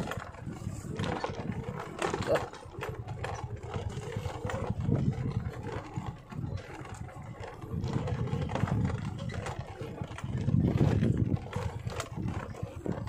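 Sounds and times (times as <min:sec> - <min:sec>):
knocks and rattles: 0:00.0 - 0:13.0
motorcycle engine revving: 0:00.0 - 0:13.0.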